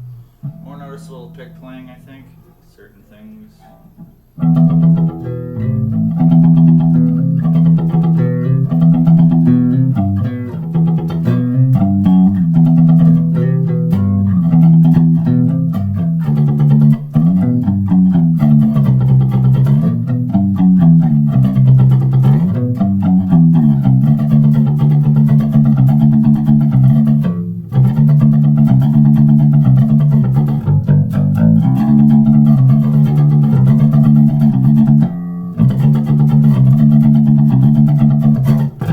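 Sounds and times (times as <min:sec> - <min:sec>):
bass guitar with flanger effect: 0:04.4 - 0:38.9.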